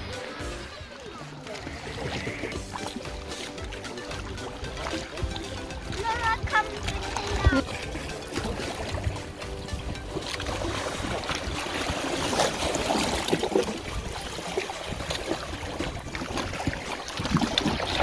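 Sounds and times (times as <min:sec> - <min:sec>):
water lapping at shore: 0:00.0 - 0:18.0.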